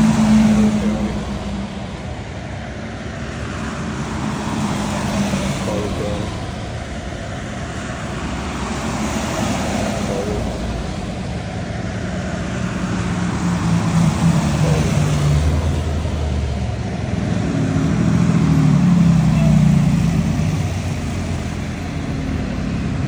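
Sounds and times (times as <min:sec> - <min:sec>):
buses driving past: 0:00.0 - 0:23.0.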